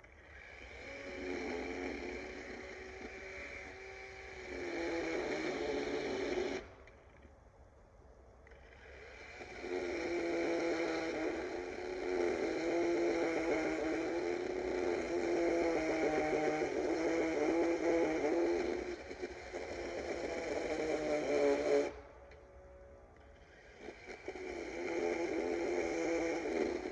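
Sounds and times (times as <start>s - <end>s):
electric chainsaw cutting wood: 0.0s - 7.3s, 8.4s - 26.9s.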